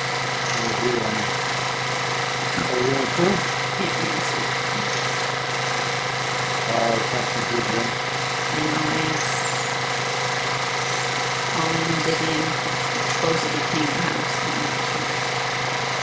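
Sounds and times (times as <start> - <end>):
film projector whirring: 0.0 - 16.0.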